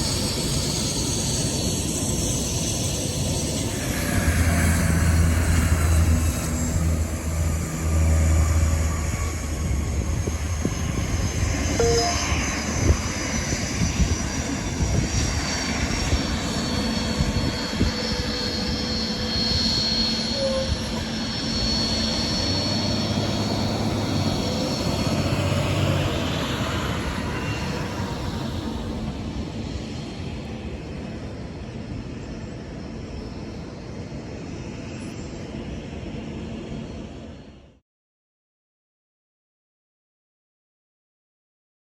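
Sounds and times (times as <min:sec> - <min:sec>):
jet engine turbine whine: 0:00.0 - 0:37.8.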